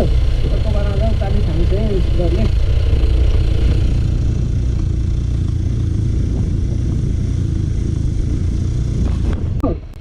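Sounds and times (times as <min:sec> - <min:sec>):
scooter engine low rumble: 0:00.0 - 0:10.0.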